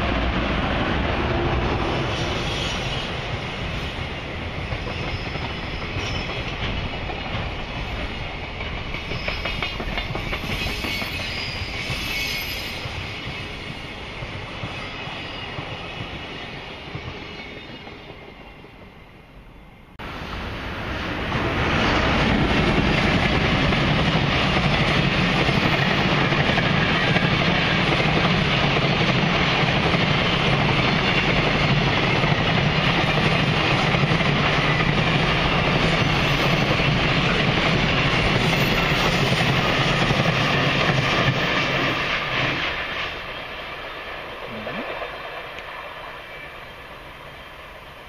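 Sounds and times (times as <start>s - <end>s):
freight train passing: 0.0s - 48.0s.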